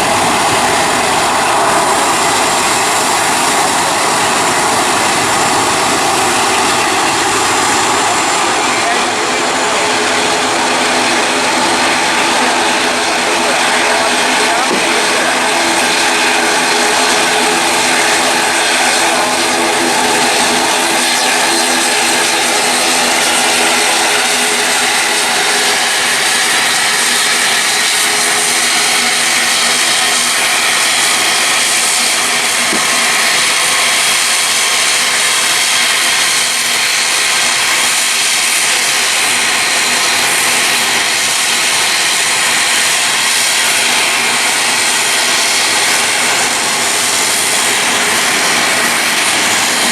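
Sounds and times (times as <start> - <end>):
airliner engines running: 0.0 - 49.9
cluster of steady tones: 0.0 - 49.9.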